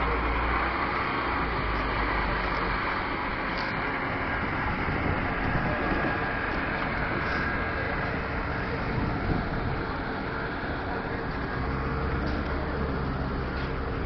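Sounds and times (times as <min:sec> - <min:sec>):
engine running: 0:00.0 - 0:14.0
wind rumbling on microphone: 0:01.4 - 0:14.0.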